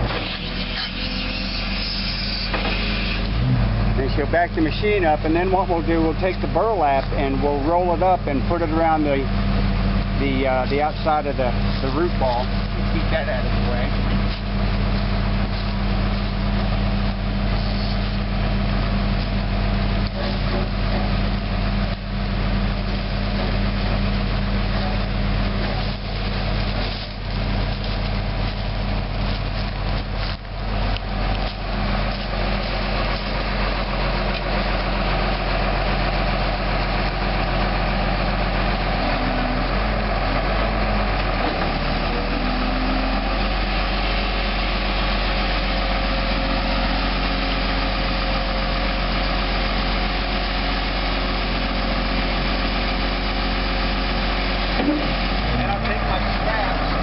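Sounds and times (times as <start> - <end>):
diesel loader engine running: 0.0 - 57.0.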